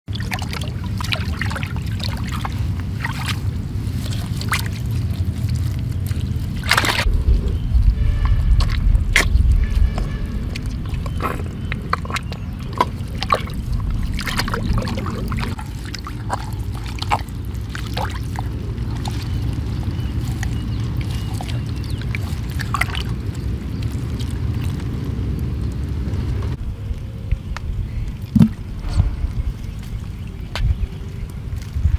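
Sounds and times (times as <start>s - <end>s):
hands splashing in muddy water: 0.1s - 26.4s.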